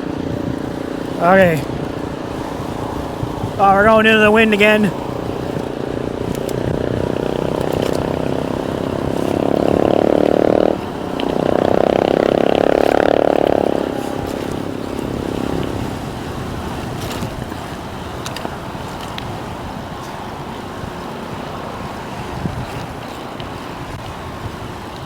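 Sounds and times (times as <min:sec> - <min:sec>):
wind on microphone: 0:00.0 - 0:25.0.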